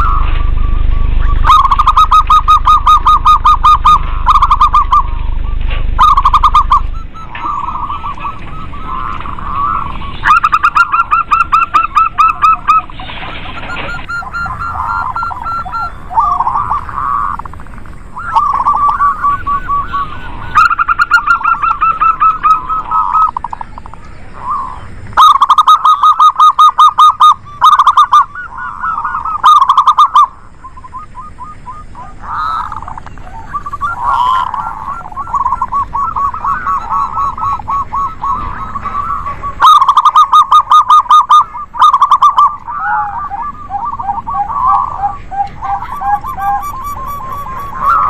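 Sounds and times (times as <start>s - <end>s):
doves cooing: 0.0s - 48.0s
low hum: 0.0s - 48.0s.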